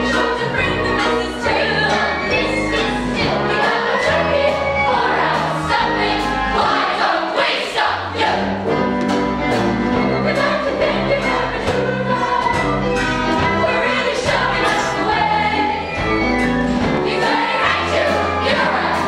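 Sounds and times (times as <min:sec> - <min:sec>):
chorus singing show tune: 0:00.0 - 0:08.6, 0:10.0 - 0:19.0
instrumental accompaniment: 0:00.0 - 0:19.0.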